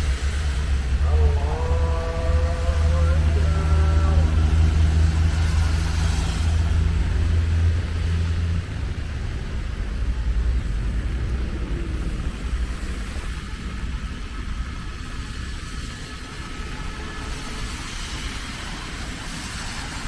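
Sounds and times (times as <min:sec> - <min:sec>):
low engine hum: 0:00.0 - 0:20.0
road traffic rumble: 0:00.0 - 0:20.0.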